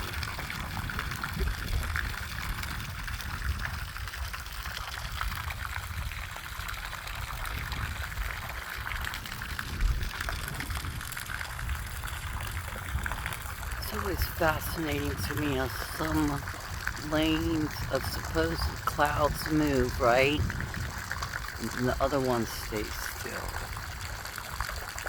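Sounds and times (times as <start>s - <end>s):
running water rushing: 0.0s - 25.0s.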